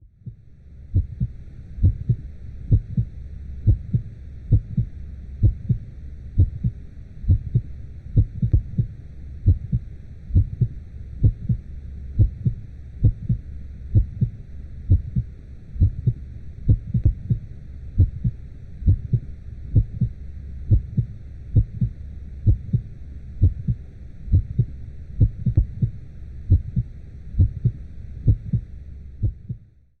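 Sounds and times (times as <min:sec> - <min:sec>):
heartbeat thumps: 0:00.1 - 0:29.7.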